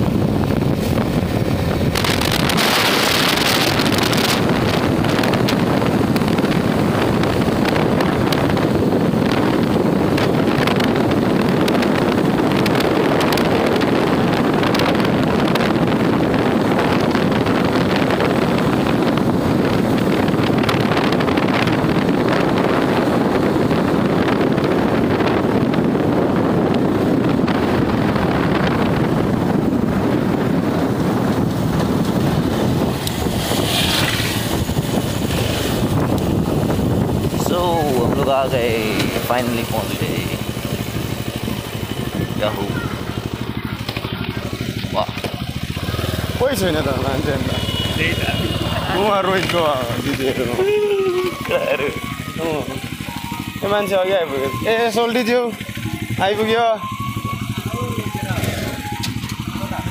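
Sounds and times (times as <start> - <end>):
motorcycle running and tyre noise: 0.0 - 59.9
wind rushing on microphone: 0.0 - 59.9.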